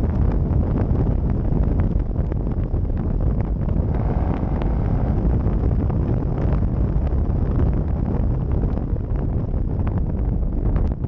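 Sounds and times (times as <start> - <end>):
low exhaust rumble: 0.0 - 11.0
road and wind noise: 0.0 - 11.0.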